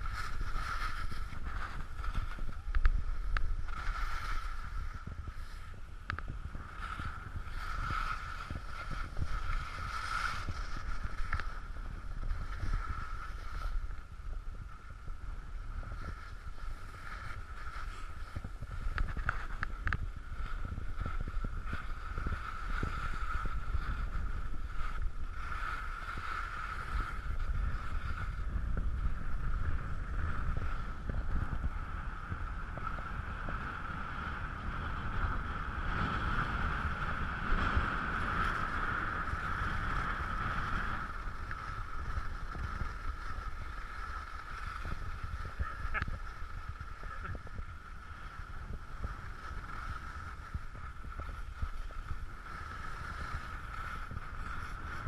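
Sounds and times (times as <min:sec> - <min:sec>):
skis sliding on snow: 0:00.0 - 0:55.0
wind blowing over microphone: 0:00.0 - 0:55.0.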